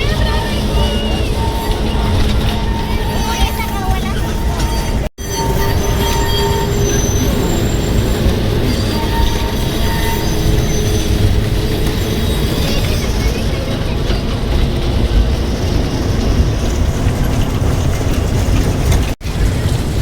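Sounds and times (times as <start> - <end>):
train rumbling on track: 0.0 - 20.0
wheel squeal: 0.0 - 20.0.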